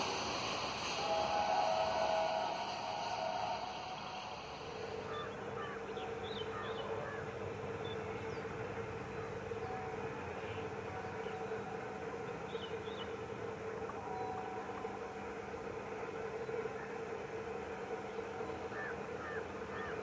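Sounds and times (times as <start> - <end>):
distant diesel locomotive drone: 0.0 - 20.0.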